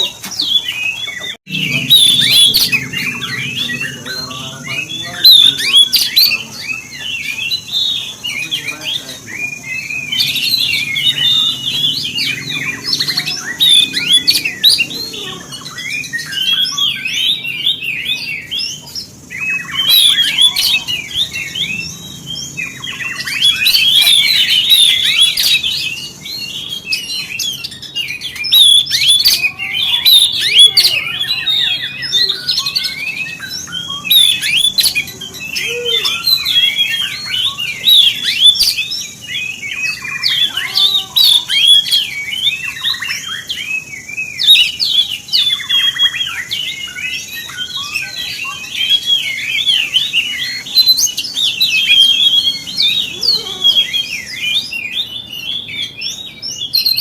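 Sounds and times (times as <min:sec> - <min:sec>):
bird singing chirps and whistles: 0:00.0 - 0:57.0.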